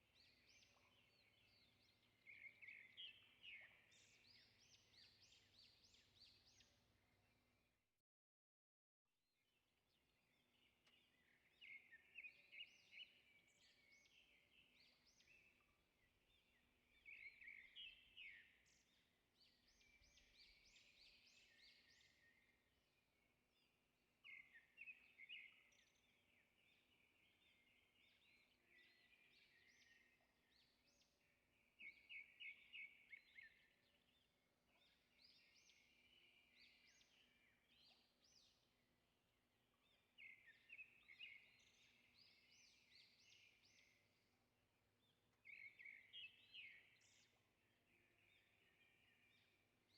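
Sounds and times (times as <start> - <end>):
faint bird chirping: 0.0 - 7.7, 9.9 - 38.8, 39.6 - 44.4, 45.0 - 49.9.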